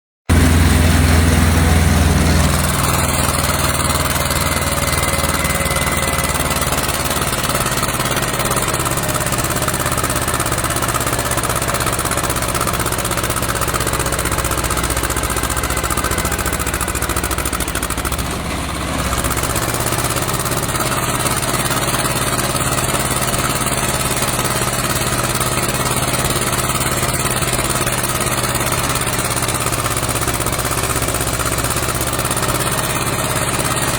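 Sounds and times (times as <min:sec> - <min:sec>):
tractor engine running: 0:00.3 - 0:33.9.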